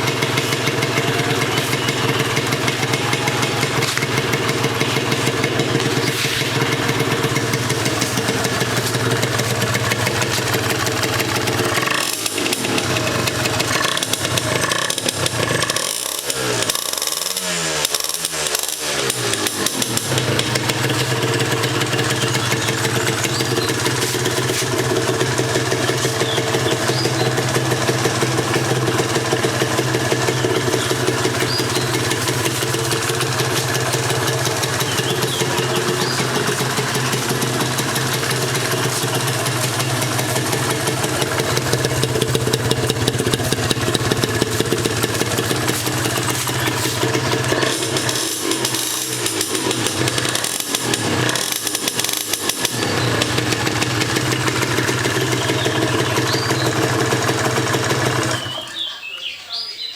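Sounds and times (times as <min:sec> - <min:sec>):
two-stroke motorcycle engine running: 0:00.0 - 0:58.9.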